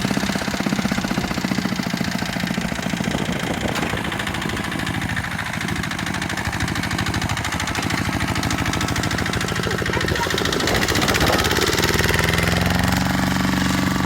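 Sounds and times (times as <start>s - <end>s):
tractor diesel engine chugging: 0.0s - 14.0s.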